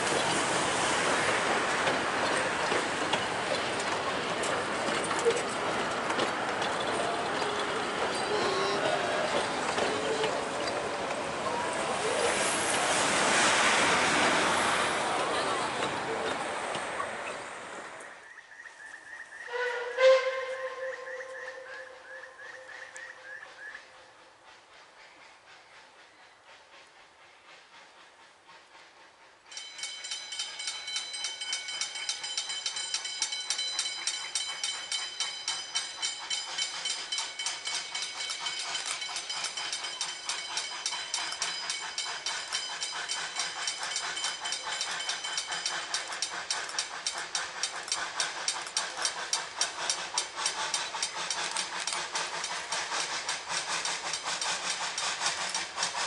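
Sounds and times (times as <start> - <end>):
steam locomotive chuffing: 0.0 - 17.7, 19.5 - 56.0
steam hissing from cylinders: 0.0 - 18.0, 24.3 - 56.0.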